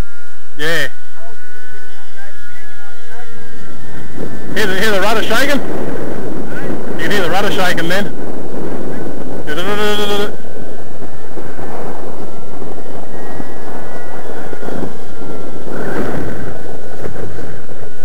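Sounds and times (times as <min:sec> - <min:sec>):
model plane engine droning: 0:00.0 - 0:18.0
wind buffeting microphone: 0:00.0 - 0:18.0.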